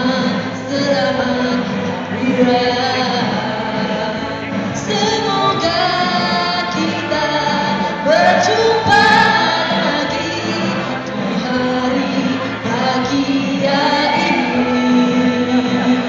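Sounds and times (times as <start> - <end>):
musical accompaniment: 0.0 - 16.0
woman singing into a microphone: 0.0 - 16.0.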